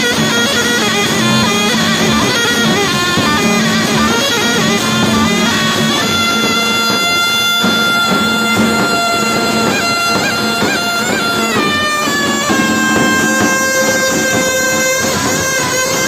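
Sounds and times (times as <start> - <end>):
folk dance music on reedy wind instrument: 0.0 - 16.0.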